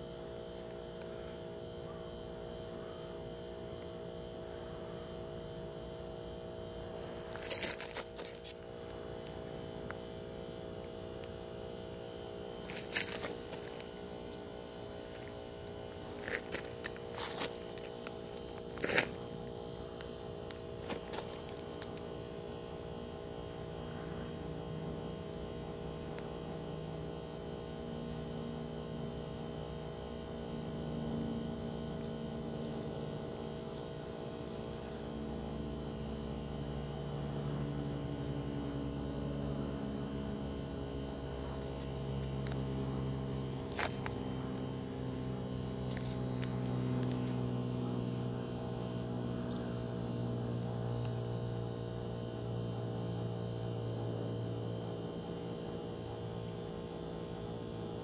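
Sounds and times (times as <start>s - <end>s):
steady tonal hum: 0.0s - 58.0s.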